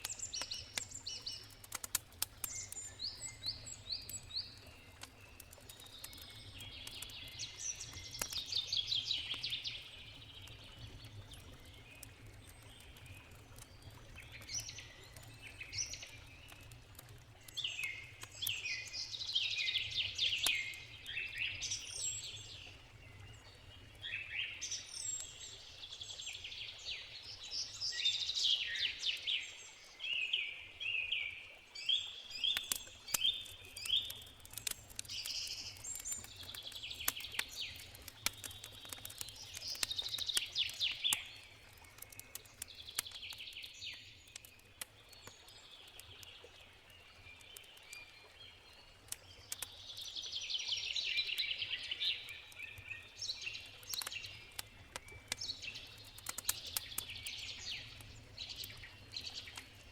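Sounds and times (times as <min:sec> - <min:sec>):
campfire crackling and popping: 0:00.0 - 0:29.3, 0:31.5 - 0:59.9
songbirds singing: 0:00.0 - 0:59.9.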